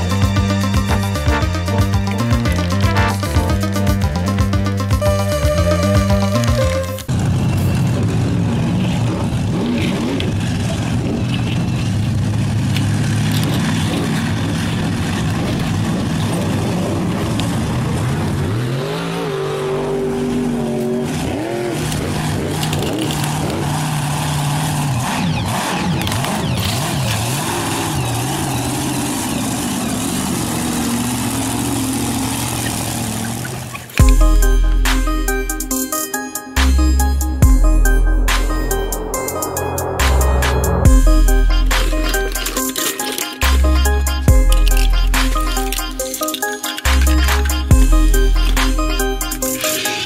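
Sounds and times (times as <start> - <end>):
car engine revving: 0.0 - 35.8, 36.6 - 46.0.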